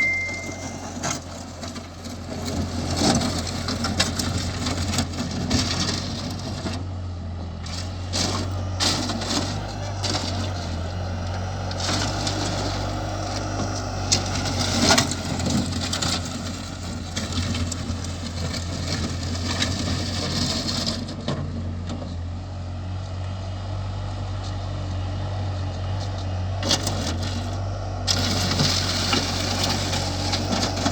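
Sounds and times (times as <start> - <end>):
loader engine running: 0.0 - 30.9.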